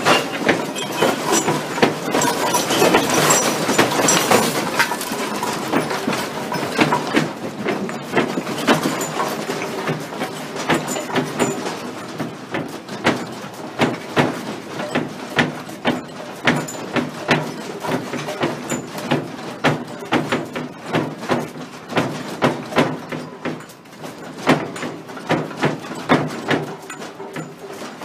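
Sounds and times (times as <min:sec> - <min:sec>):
windows and doors rattling: 0:00.0 - 0:28.0.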